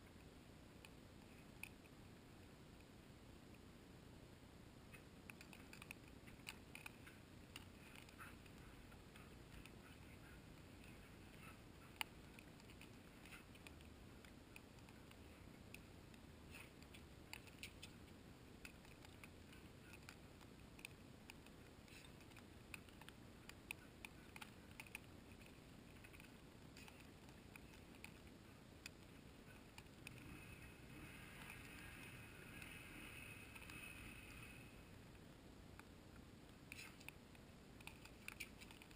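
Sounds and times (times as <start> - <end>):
faint clicks and ticks: 0.0 - 38.9.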